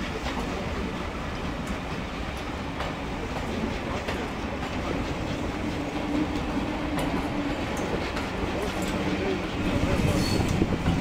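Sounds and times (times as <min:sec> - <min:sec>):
train wheels rumbling on rails: 0:00.0 - 0:11.0
wheels clicking over rail joints: 0:00.0 - 0:11.0.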